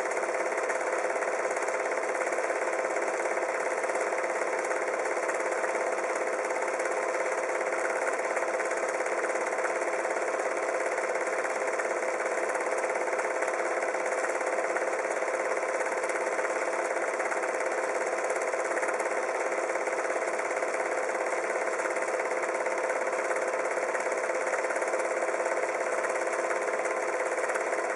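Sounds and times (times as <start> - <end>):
mechanical running noise with hum: 0.0 - 27.9.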